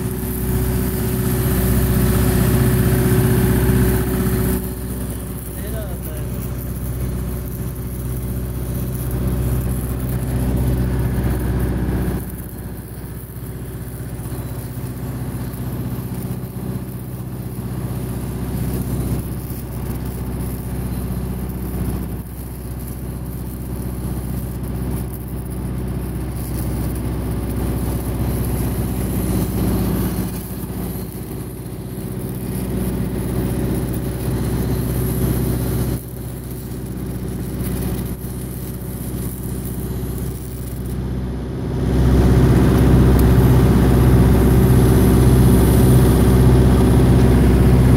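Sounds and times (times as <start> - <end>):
engine drone: 0.0 - 47.9
welding arc crackle: 0.0 - 47.9.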